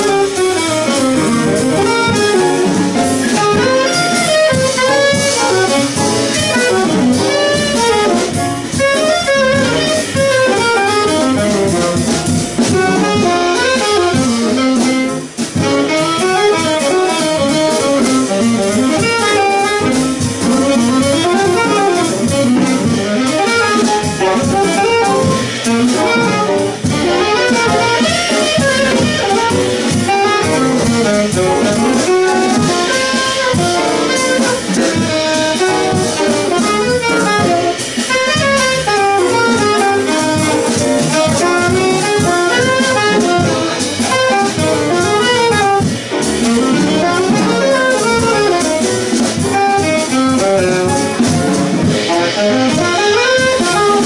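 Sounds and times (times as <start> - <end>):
drum kit: 0.0 - 54.0
piano: 0.0 - 54.0
saxophone melody: 0.0 - 54.0
upright bass: 0.0 - 54.0.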